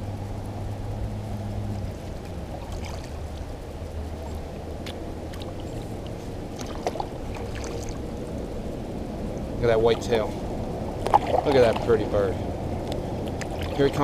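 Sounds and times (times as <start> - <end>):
steady low rumble: 0.0 - 14.0
water lapping and trickling: 0.0 - 14.0
water drips and splashes: 1.7 - 14.0.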